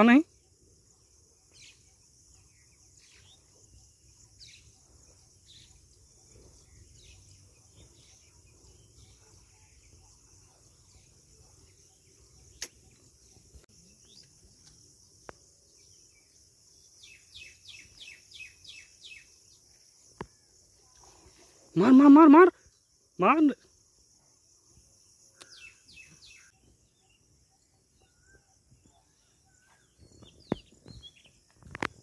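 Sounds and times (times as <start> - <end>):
bird chirps: 1.1 - 23.6, 25.0 - 32.0.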